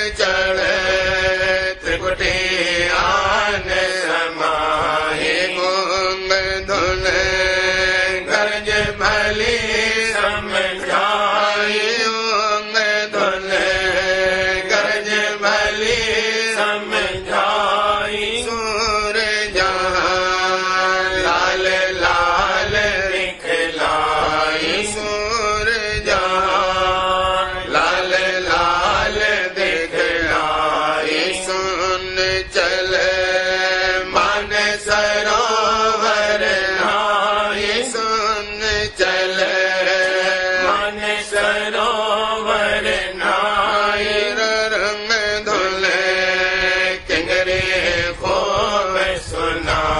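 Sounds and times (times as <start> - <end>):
chant-like hymn melody: 0.0 - 49.9.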